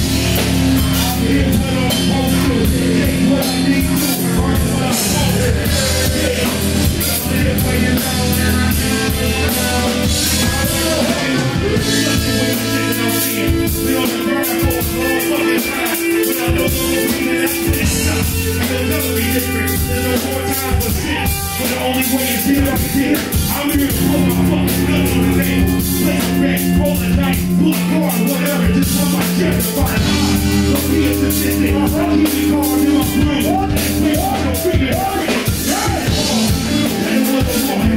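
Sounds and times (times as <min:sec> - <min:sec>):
electric guitars and bass: 0:00.0 - 0:37.9
rock vocals: 0:00.0 - 0:37.9
steady drums: 0:00.0 - 0:37.9.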